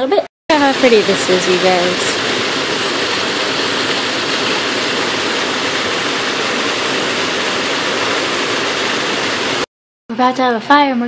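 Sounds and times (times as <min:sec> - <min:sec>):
waterfall rushing: 0:00.5 - 0:09.7.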